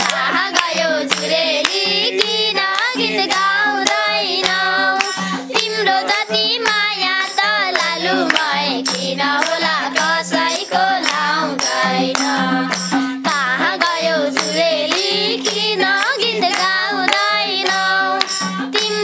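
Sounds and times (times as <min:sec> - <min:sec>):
boy singing: 0:00.0 - 0:19.0
group clapping in rhythm: 0:00.0 - 0:19.0
women singing: 0:00.0 - 0:19.0.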